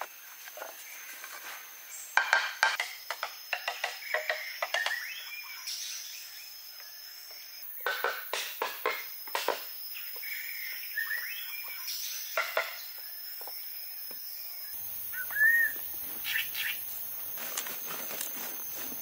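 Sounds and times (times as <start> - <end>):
high insect drone: 0.0 - 19.0
forest birds calling: 0.6 - 8.1, 8.8 - 19.0.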